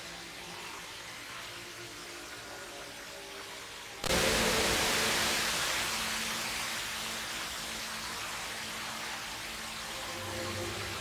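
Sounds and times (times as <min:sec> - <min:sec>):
indoor waterfall rushing: 0:00.0 - 0:11.0.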